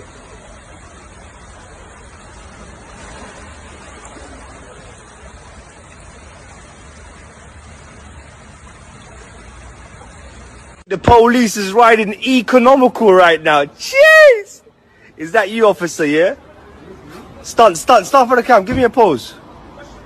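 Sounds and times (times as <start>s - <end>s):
vehicle road and wind noise: 0.0s - 13.8s, 14.6s - 20.0s.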